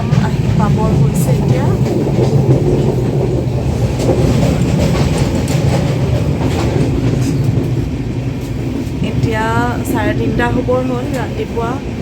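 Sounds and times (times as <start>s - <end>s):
wheels clicking over track: 0.0s - 10.3s
train coach rumbling: 0.0s - 12.0s.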